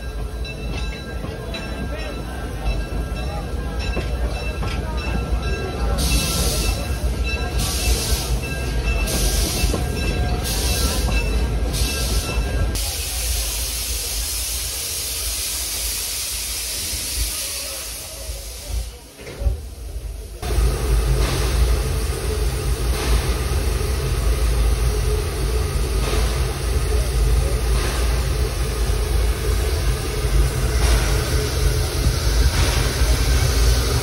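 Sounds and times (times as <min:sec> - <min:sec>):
steam locomotive rumbling: 0:00.0 - 0:34.0
steam hissing: 0:05.0 - 0:34.0.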